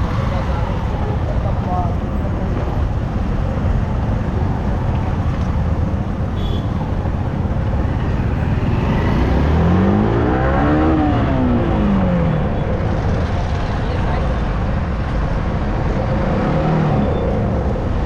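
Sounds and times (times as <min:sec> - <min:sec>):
road rumble: 0:00.0 - 0:18.0.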